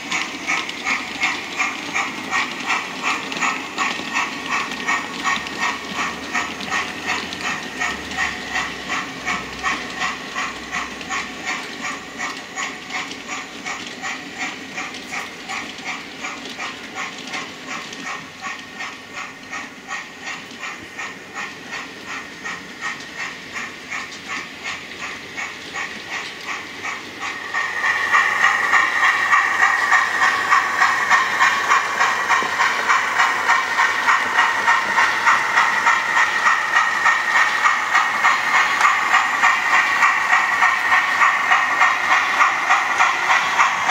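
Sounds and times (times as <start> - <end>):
model steam locomotive chuffing: 0.0 - 43.9
steam hiss: 0.0 - 43.9.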